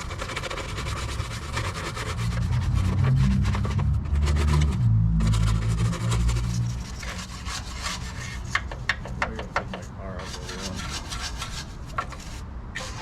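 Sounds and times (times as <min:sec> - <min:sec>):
stiff brush scrubbing metal: 0:00.0 - 0:13.0.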